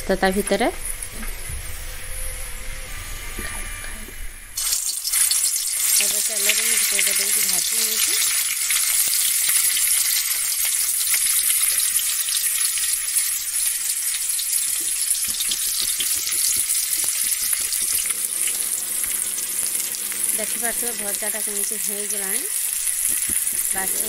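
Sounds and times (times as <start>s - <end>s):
food sizzling in oil: 4.5s - 24.0s
oil popping and crackling: 4.6s - 24.0s.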